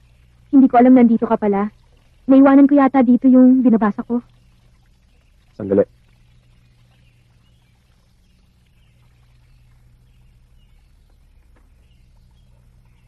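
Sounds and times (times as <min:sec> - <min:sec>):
faint low hum and hiss: 0:00.0 - 0:13.0.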